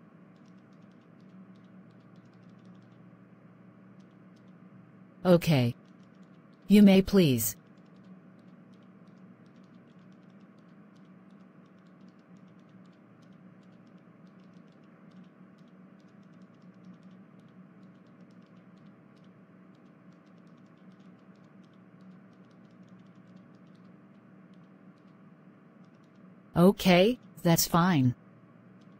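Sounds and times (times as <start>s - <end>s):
low steady hum: 0.0s - 28.9s
faint rapid clicking: 0.2s - 5.1s, 5.7s - 6.7s, 7.5s - 26.5s, 28.5s - 28.9s.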